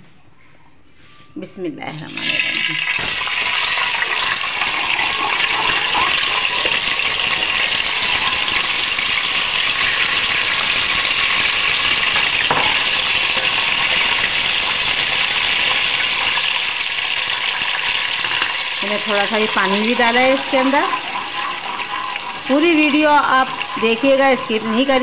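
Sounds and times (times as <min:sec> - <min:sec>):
paste sizzling in hot oil: 0:02.1 - 0:25.0.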